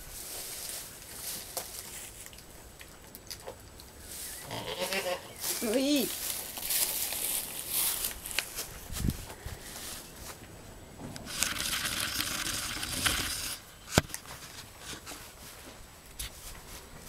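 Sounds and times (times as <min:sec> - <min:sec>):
straw and hay rustling: 0:00.0 - 0:02.6, 0:03.9 - 0:13.6, 0:14.2 - 0:17.0.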